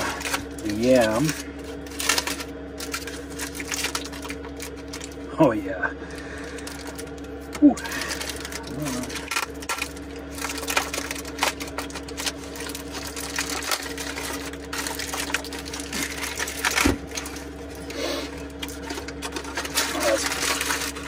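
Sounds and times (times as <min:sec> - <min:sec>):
aluminium foil crinkling: 0:00.0 - 0:21.0
heater humming: 0:00.0 - 0:21.0.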